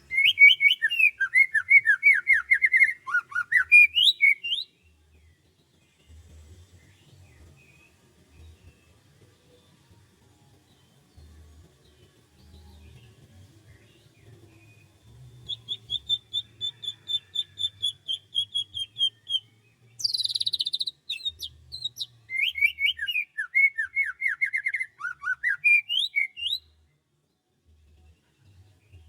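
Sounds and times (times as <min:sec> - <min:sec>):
songbirds singing: 0:00.0 - 0:09.2, 0:10.7 - 0:29.0.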